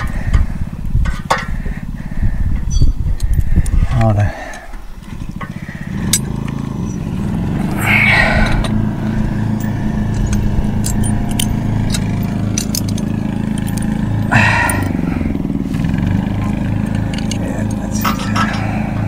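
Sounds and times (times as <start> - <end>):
engine running with pulsing hum: 0.0 - 19.0.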